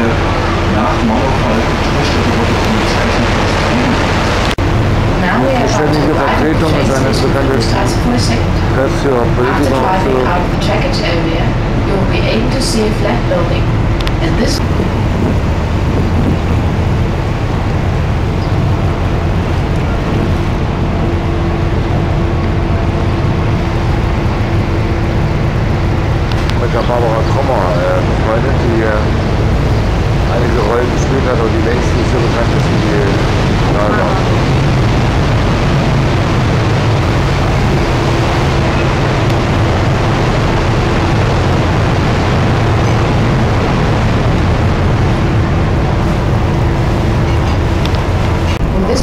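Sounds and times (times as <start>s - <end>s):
boat engine droning: 0.0s - 49.0s
faint steady hum: 0.0s - 49.0s
rushing noise: 0.0s - 49.0s.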